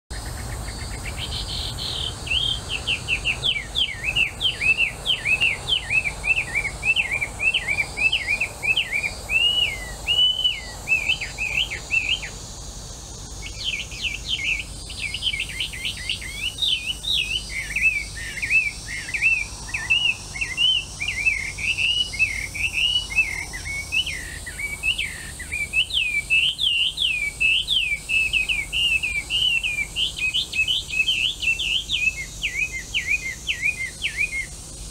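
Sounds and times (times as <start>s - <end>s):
songbird singing whistled notes: 0.1s - 34.9s.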